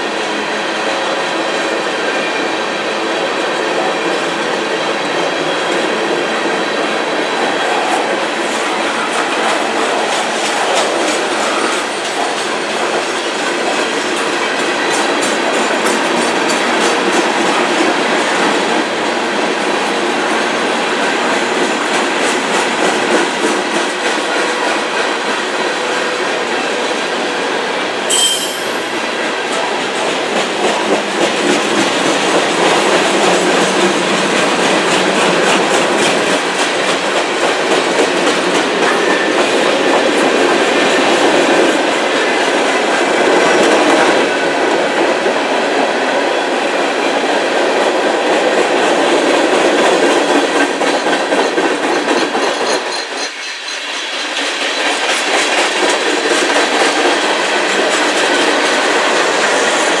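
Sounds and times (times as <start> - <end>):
freight train rolling past: 0.0 - 60.0.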